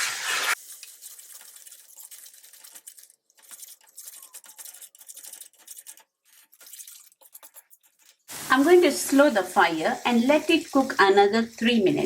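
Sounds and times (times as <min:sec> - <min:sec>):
paste frying in oil: 0:00.0 - 0:12.0.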